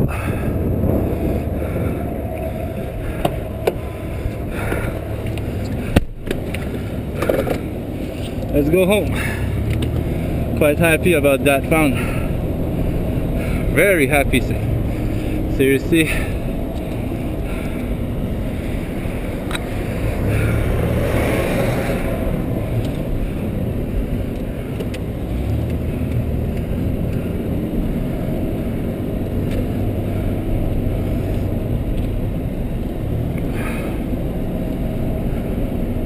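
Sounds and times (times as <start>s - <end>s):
road rumble: 0.0s - 36.0s
vehicle engine: 0.0s - 36.0s.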